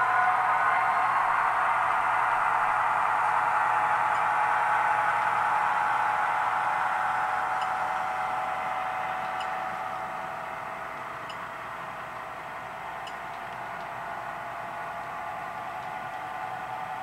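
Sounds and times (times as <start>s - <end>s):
model train whirring: 0.0s - 17.0s.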